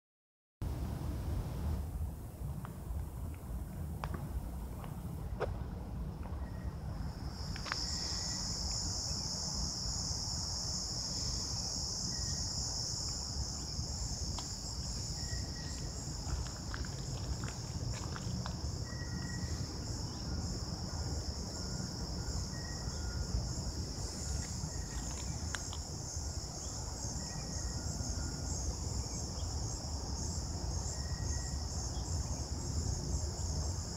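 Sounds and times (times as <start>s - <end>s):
insects trilling: 6.2s - 33.9s.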